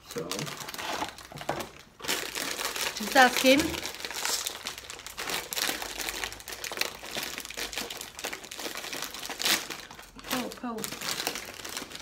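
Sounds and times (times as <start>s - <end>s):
plastic snack packet crinkling: 0.0s - 12.0s.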